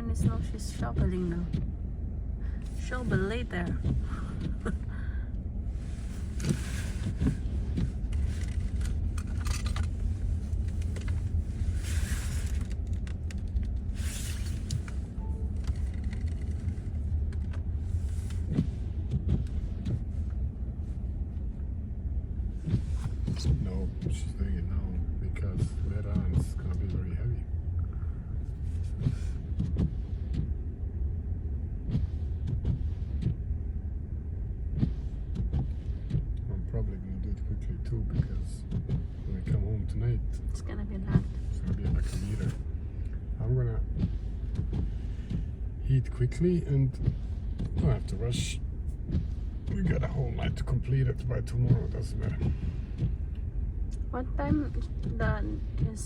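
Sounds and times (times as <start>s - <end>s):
car interior rumble: 0.0s - 56.0s.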